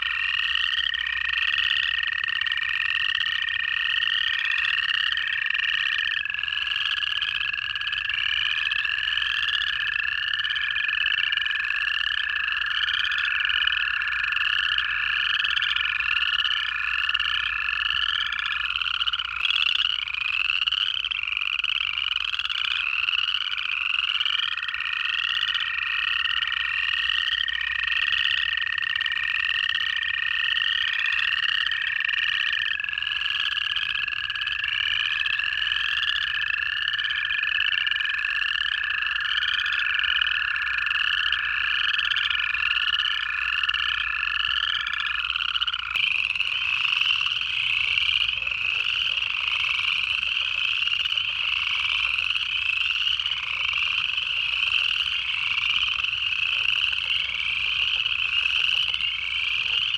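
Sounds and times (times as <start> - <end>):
chorus frogs trilling: 0.0 - 59.9
toad long trills: 0.0 - 59.9.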